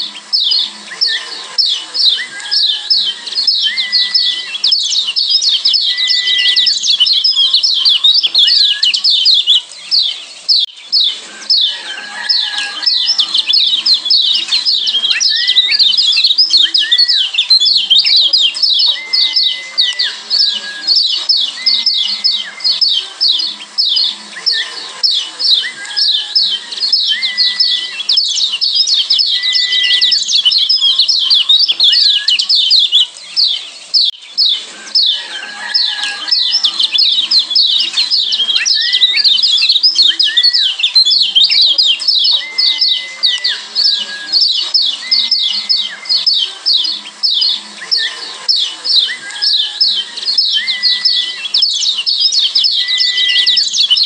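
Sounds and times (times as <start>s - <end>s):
white-eye chattering chirps: 0.0s - 54.0s.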